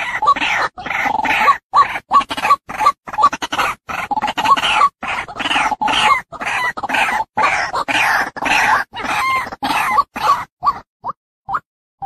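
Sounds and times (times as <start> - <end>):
bird harsh clucking calls: 0.0 - 10.9.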